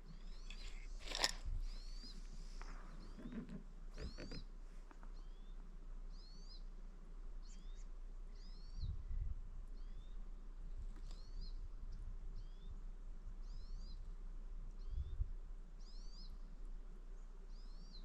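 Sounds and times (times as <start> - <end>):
small bird chirping: 0.0 - 6.8, 7.4 - 14.1, 14.7 - 16.5, 17.2 - 18.0.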